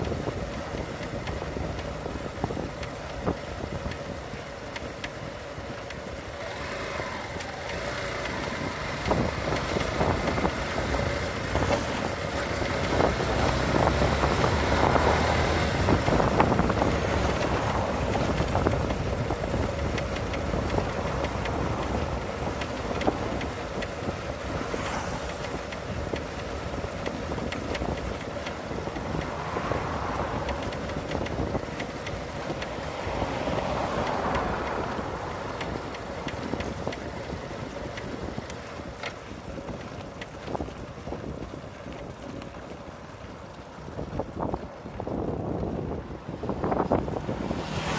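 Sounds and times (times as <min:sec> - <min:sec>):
motorcycle engine running: 0:00.0 - 0:47.9
road and wind noise: 0:00.0 - 0:47.9.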